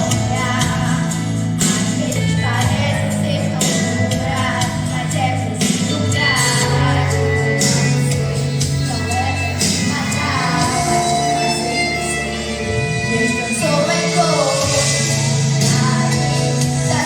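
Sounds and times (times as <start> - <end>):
worship song with bass: 0.0 - 17.0.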